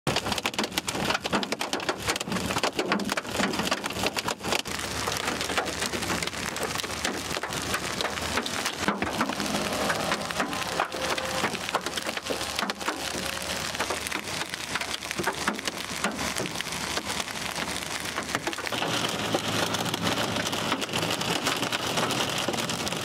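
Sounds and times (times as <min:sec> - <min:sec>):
hail falling hard: 0:00.1 - 0:23.0.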